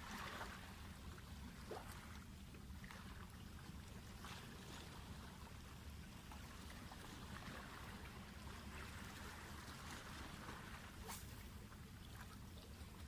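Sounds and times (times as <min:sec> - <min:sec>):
constant low rumble: 0:00.0 - 0:13.0
water lapping and trickling: 0:00.0 - 0:13.0.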